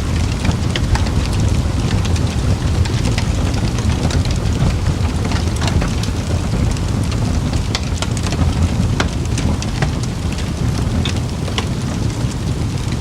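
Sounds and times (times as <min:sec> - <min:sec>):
campfire crackling and popping: 0:00.0 - 0:13.0
low rumble of flames: 0:00.0 - 0:13.0.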